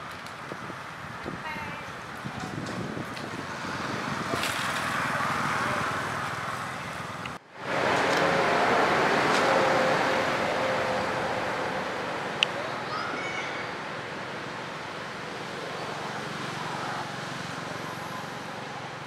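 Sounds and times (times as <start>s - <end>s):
distant road traffic rushing: 0.0s - 19.0s.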